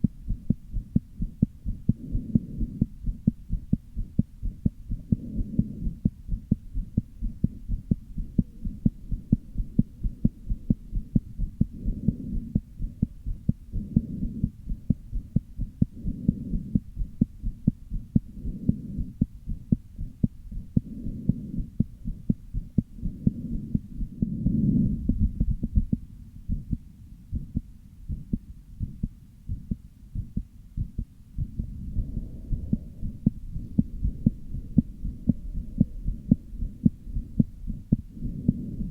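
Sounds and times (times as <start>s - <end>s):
heartbeat thuds: 0.0s - 38.9s.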